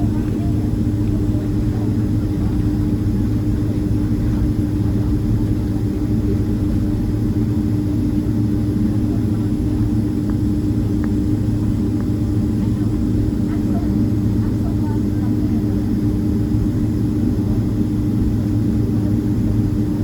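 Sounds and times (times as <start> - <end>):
jet engine drone inside cabin: 0.0 - 20.0.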